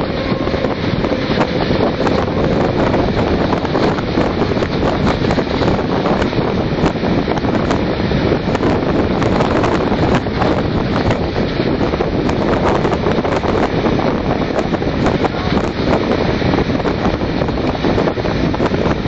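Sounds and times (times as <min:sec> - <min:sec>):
steam train rumbling: 0:00.0 - 0:19.0
wind buffeting microphone: 0:00.0 - 0:19.0.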